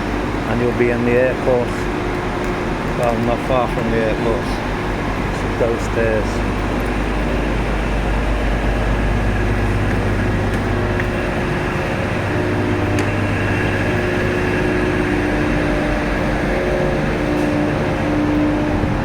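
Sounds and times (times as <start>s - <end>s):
faint steady pitched tones: 0.0s - 19.0s
low mechanical hum: 0.0s - 19.0s.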